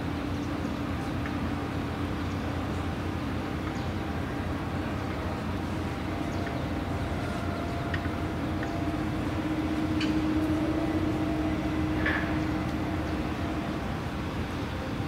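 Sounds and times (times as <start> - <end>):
distant machinery drone: 0.0 - 15.0.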